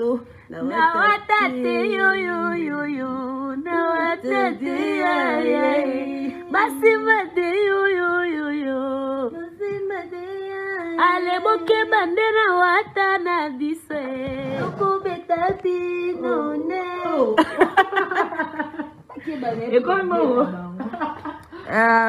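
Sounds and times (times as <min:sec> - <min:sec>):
women singing unaccompanied: 0:00.0 - 0:18.8.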